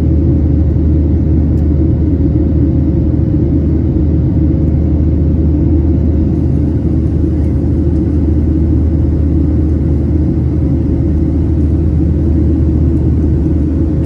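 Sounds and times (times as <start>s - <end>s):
airplane cabin engine rumble: 0.0s - 14.0s
faint steady hum: 0.0s - 14.0s.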